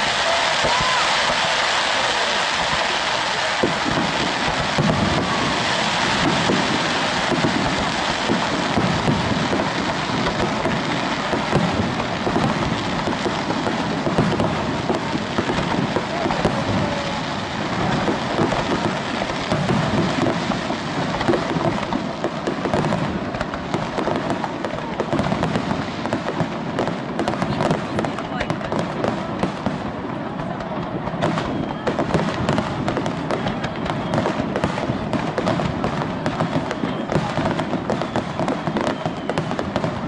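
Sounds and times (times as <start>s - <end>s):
fireworks crackling: 0.0s - 40.0s.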